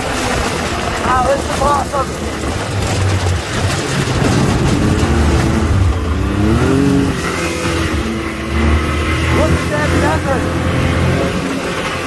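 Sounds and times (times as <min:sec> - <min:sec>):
utility vehicle engine rumbling: 0:00.0 - 0:12.0.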